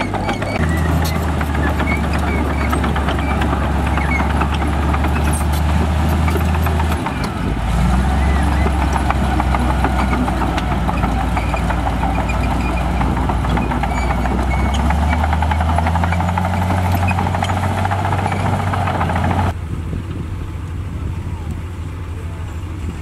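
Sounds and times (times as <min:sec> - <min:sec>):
steel tracks clattering: 0:00.0 - 0:19.5
bulldozer diesel engine: 0:00.0 - 0:23.0.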